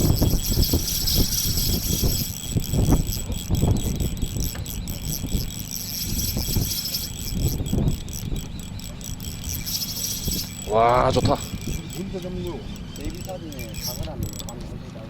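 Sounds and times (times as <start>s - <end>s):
high pulsing chirr: 0.0s - 14.6s
wind buffeting microphone: 0.0s - 14.8s.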